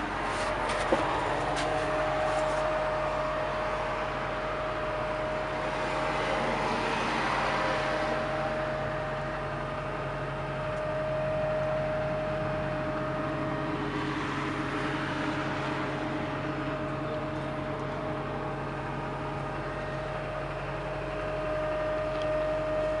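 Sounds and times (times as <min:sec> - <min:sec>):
diesel engine running: 0:00.0 - 0:23.0
high whine: 0:00.0 - 0:23.0.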